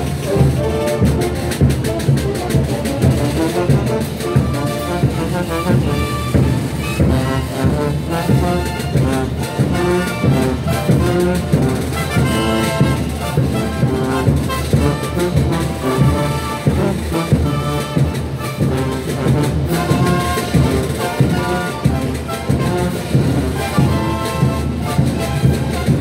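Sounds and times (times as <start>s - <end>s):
heavy drum beat: 0.0s - 26.0s
trumpets playing: 0.0s - 26.0s.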